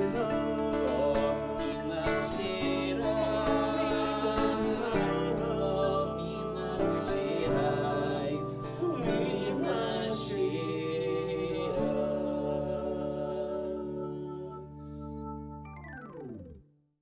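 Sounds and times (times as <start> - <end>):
two men singing: 0.0 - 14.6
acoustic guitar: 0.0 - 16.6
electronic keyboard: 0.0 - 16.8.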